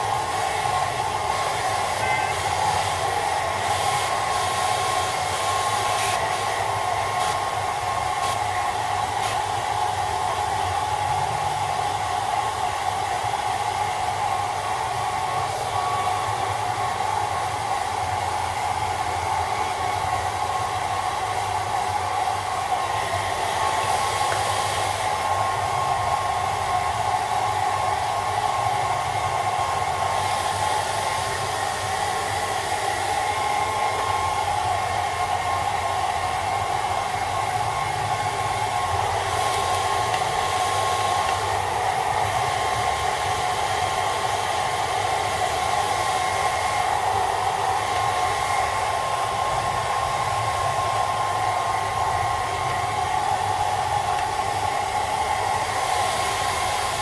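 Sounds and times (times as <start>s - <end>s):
hair dryer blowing: 0.0s - 57.0s.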